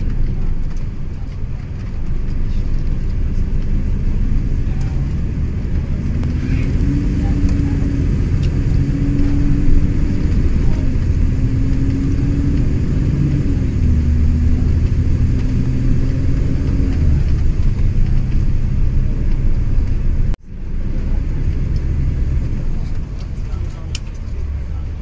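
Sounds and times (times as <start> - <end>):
bus engine drone: 0.0 - 25.0
road rumble: 0.0 - 25.0.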